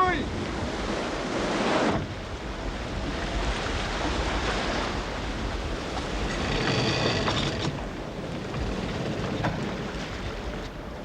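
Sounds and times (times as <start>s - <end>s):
waves crashing: 0.0s - 11.0s.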